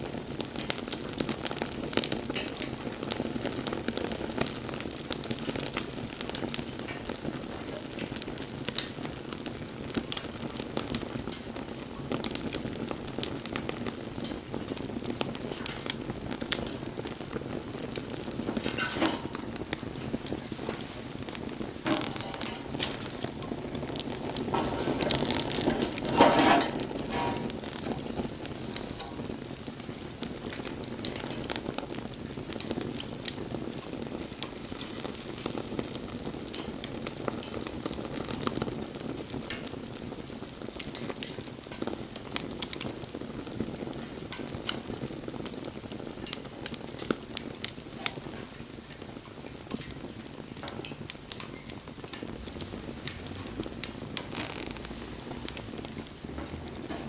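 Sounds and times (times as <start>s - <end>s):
hiss of bonfire flames: 0.0s - 57.0s
wood crackling and popping: 0.0s - 57.0s.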